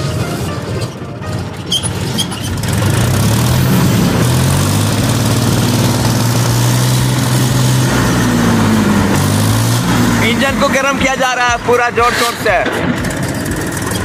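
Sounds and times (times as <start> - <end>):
tractor diesel engine revving: 0.0 - 14.0.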